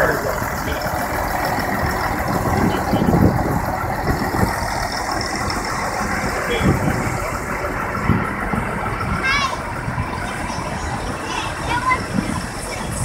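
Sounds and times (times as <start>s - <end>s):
tractor diesel engine rumbling: 0.0s - 13.0s.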